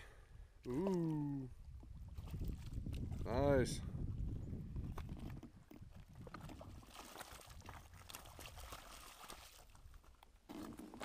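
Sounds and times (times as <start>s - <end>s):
shallow water splashing: 0.6s - 3.8s, 4.8s - 11.0s.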